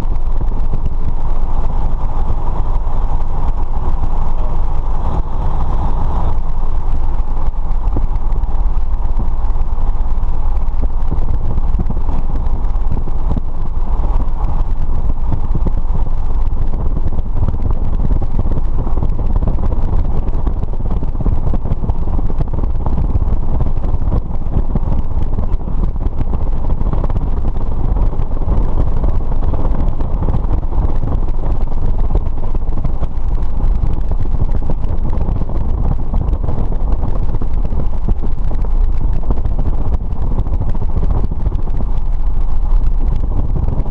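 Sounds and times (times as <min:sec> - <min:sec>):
light aircraft engine and propeller: 0:00.0 - 0:43.9.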